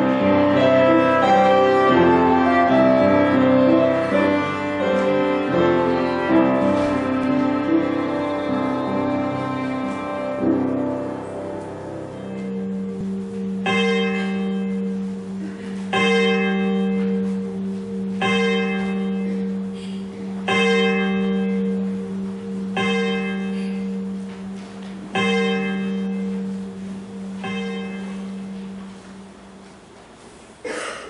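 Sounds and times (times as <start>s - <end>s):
church bell tolling: 0.0s - 29.9s
low hum: 0.0s - 30.5s.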